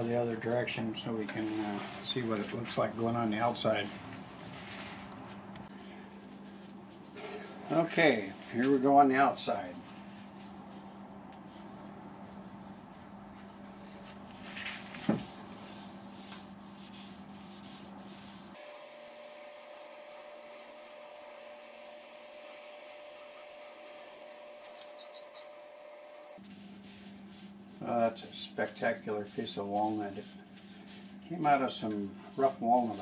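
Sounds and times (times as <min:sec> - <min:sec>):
cloth rubbing on wood: 0:06.2 - 0:33.0.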